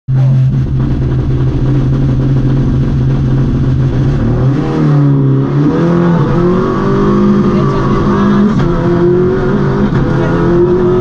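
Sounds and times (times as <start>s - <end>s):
rally car engine running loudly: 0.1s - 11.0s.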